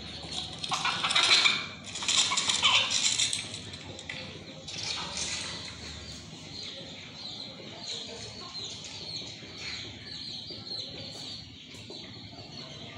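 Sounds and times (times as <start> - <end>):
chickens clucking: 0.0 - 12.9.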